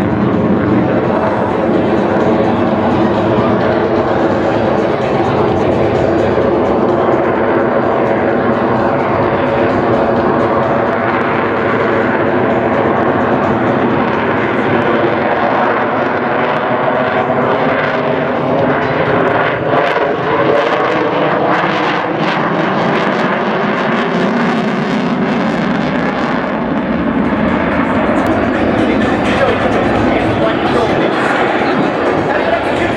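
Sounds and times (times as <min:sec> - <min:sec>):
jet engines flying by: 0:00.0 - 0:32.9.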